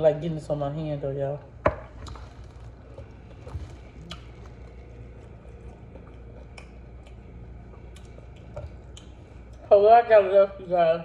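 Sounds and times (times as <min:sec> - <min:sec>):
low hum: 0:00.0 - 0:11.0
wet squishing of food: 0:01.5 - 0:10.7.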